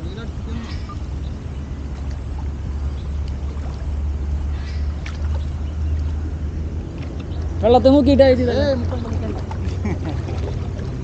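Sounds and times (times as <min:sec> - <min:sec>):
steady low rumble: 0:00.0 - 0:11.0
water sloshing: 0:00.0 - 0:11.0.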